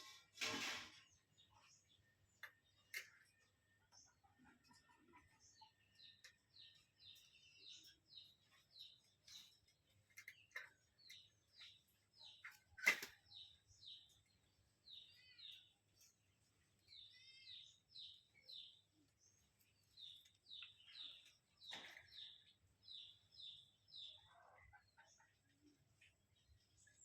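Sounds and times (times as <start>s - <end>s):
small bird chirping: 1.0s - 27.0s.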